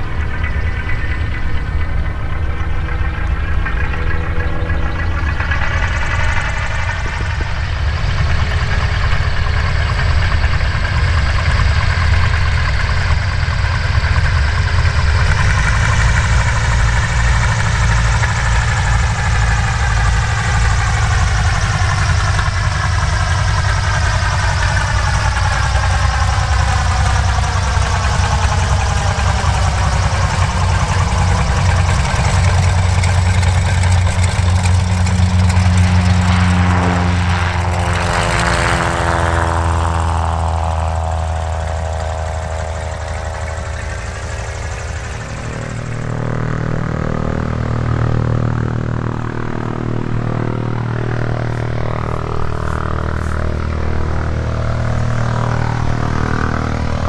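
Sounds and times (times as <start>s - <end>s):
radial aircraft engine running: 0.0s - 57.0s.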